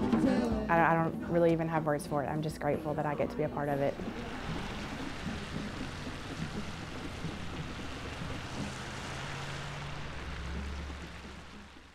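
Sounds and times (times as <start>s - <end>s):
low hum of vehicles: 0.0s - 11.9s
street ambience: 0.0s - 11.9s.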